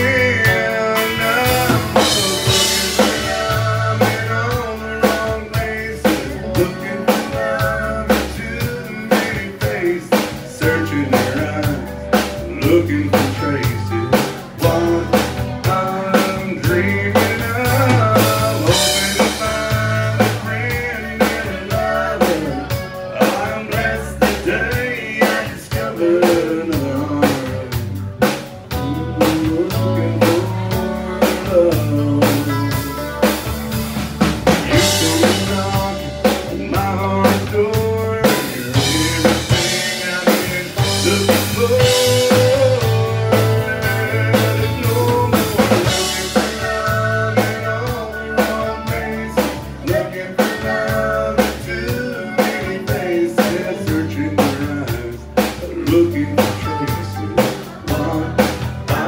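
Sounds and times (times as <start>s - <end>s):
man singing: 0.0s - 33.7s, 34.4s - 59.0s
electric and acoustic guitars: 0.0s - 59.0s
steady drum beat: 0.0s - 59.0s.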